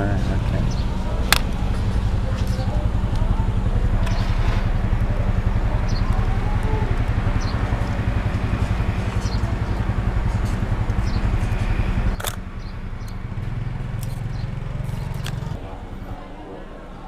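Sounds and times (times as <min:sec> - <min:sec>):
motorcycle engines idling: 0:00.0 - 0:17.0.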